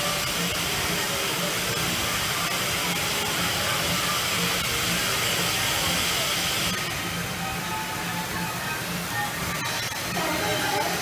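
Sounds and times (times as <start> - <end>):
amusement ride hissing: 0.0 - 11.0.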